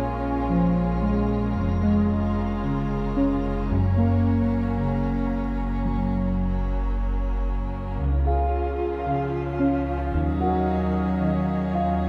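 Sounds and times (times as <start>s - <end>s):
soft new-age music: 0.0s - 12.0s.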